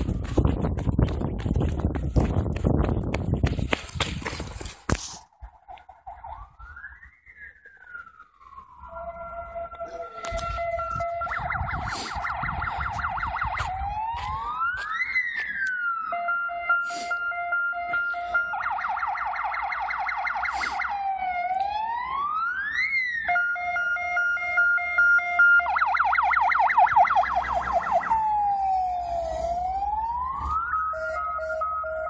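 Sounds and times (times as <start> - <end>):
engine and tyre noise: 0.0 - 32.0
fire engine siren: 5.5 - 32.0.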